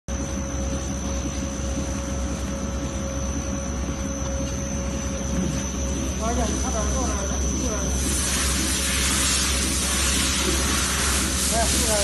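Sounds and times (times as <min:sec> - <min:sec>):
machine whines: 0:00.1 - 0:12.0.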